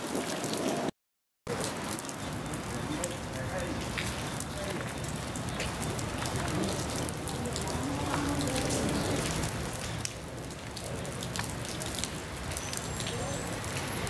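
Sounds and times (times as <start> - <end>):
heavy rain pouring: 0.0 - 0.9, 1.5 - 14.0.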